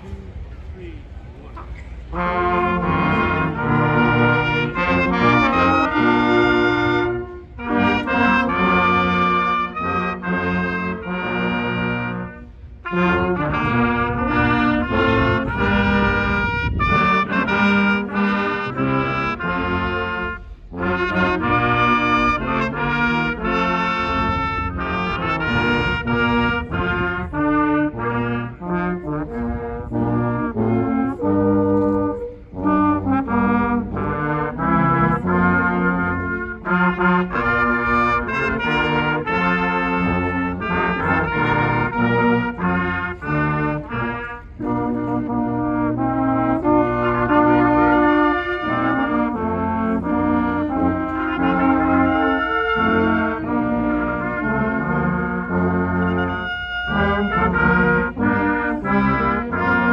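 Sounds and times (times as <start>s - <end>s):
brass ensemble playing: 1.5s - 59.9s.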